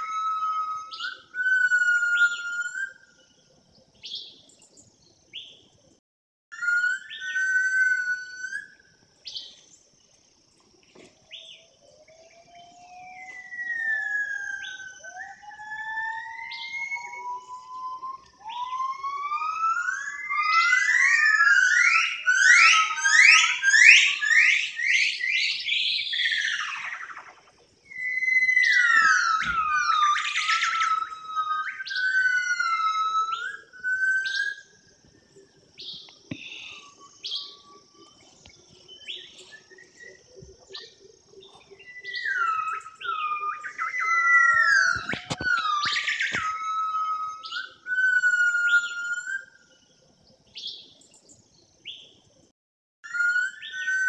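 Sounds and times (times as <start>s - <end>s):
bird singing whistled phrases: 0.0s - 3.3s, 6.5s - 9.6s, 11.3s - 34.9s, 35.8s - 49.8s, 53.0s - 54.0s.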